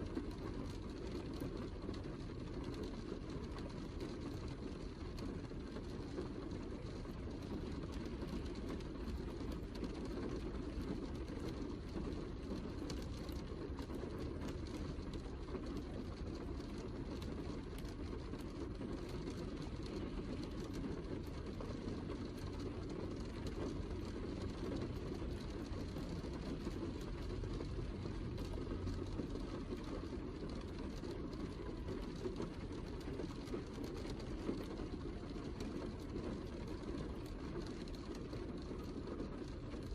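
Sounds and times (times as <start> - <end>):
heavy rain rumble: 0.0 - 39.9.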